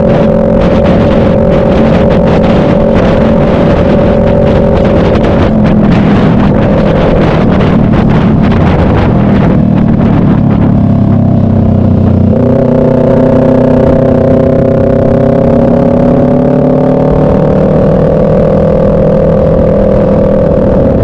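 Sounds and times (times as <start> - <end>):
motorcycle engine accelerating: 0.0 - 21.0
wind rushing over microphone: 0.0 - 21.0.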